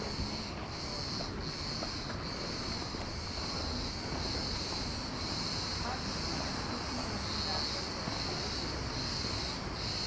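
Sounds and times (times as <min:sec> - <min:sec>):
cicadas droning: 0:00.0 - 0:10.0
faint outdoor ambience: 0:00.0 - 0:10.0.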